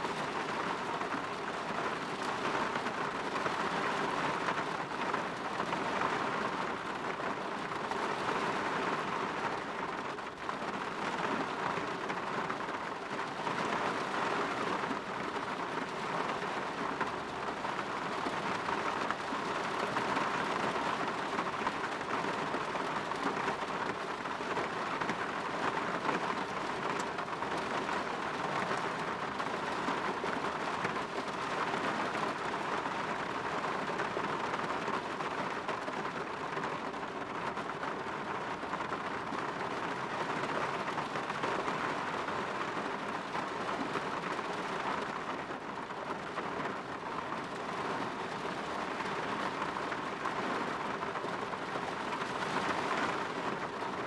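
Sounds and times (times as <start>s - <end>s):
rain pattering on a window: 0.0s - 54.0s.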